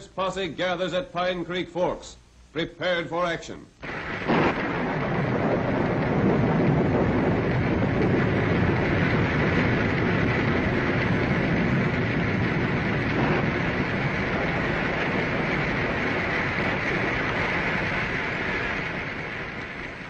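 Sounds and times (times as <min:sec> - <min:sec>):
rain rushing: 0:03.8 - 0:20.0
wind rushing: 0:03.8 - 0:20.0.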